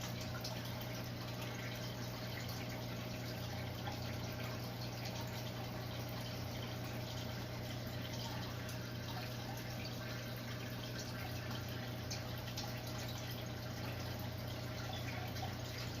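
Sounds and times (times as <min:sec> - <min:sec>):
aquarium filter trickling water: 0:00.0 - 0:16.0.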